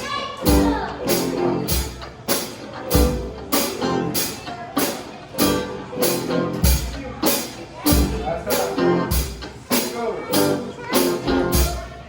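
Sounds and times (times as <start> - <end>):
music with drums and guitar: 0.4 - 12.0.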